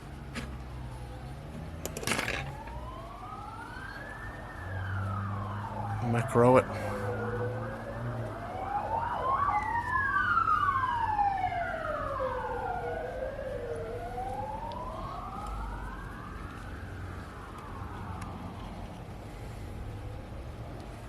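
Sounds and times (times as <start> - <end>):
emergency sirens wailing: 2.0 - 19.0.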